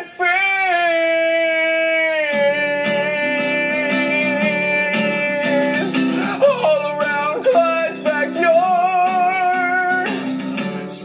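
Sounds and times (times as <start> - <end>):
man singing a long note: 0.0 - 10.1
acoustic guitar picking chords: 0.0 - 11.0.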